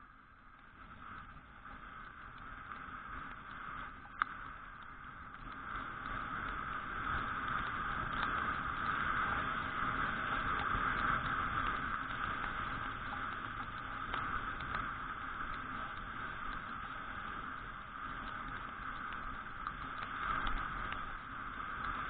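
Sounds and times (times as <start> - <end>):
scooter riding noise on wet road: 0.9 - 22.0.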